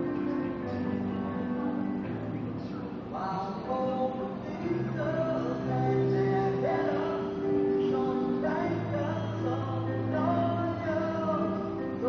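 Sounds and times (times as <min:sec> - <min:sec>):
distant man singing: 0:00.0 - 0:12.0
instrumental accompaniment chords: 0:00.0 - 0:12.0.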